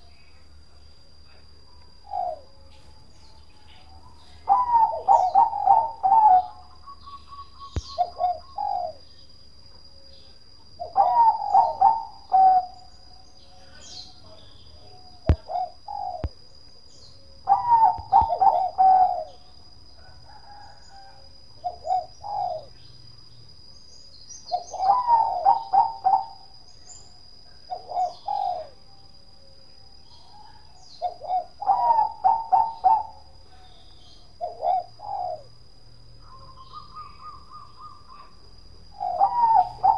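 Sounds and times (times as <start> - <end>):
dove cooing song: 1.3 - 9.2, 10.7 - 22.9, 24.4 - 29.4, 30.0 - 39.9.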